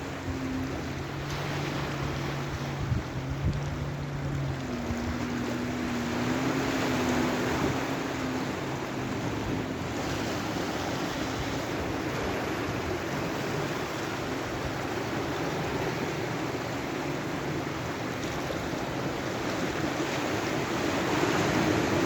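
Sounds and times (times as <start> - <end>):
low engine hum: 0.0 - 22.0
sea waves washing on shore: 0.0 - 22.0.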